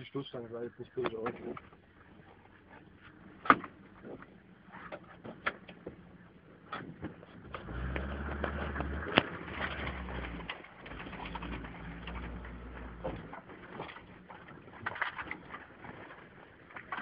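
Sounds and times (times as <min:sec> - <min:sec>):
engine droning: 0:00.0 - 0:17.0
bodywork knocks and rattles: 0:01.0 - 0:17.0.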